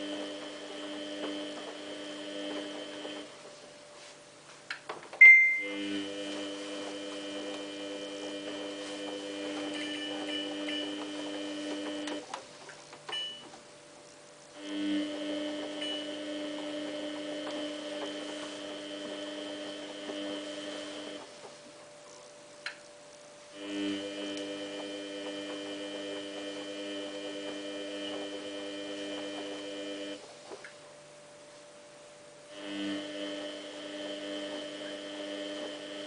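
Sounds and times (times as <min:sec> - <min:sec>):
washing machine electrical hum: 0:00.0 - 0:36.0.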